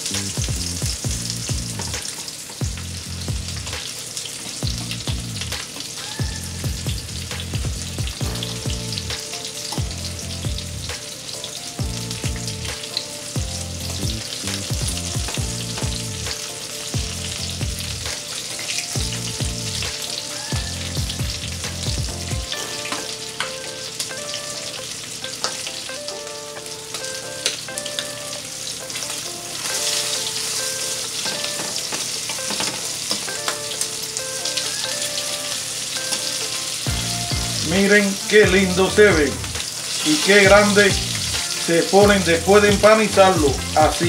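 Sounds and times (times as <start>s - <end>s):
quiet background music: 0.0s - 44.0s
shrimp sizzling in hot oil: 0.0s - 44.0s.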